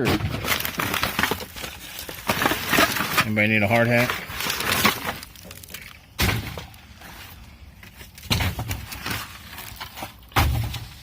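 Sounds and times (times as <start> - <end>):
items clattering: 0.0 - 11.0
rummaging through debris: 0.0 - 11.0.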